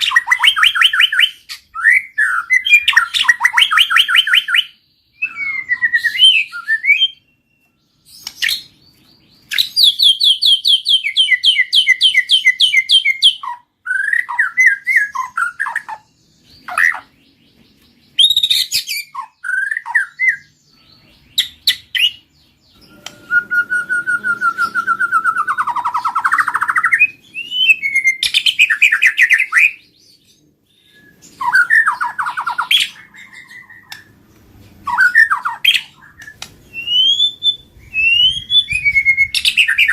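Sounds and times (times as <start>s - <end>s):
bird singing whistled phrases and trills: 0.0s - 39.9s.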